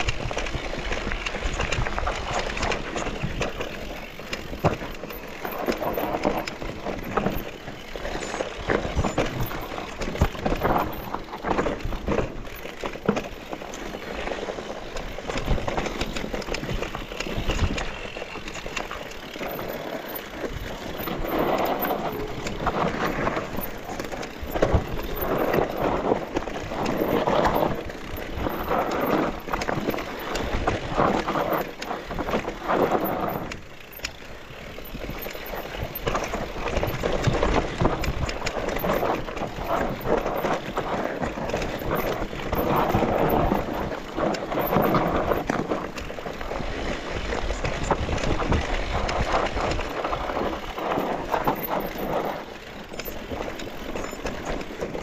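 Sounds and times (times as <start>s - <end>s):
bike rattling and clicking: 0.0s - 55.0s
tyres crunching on dirt: 0.0s - 55.0s.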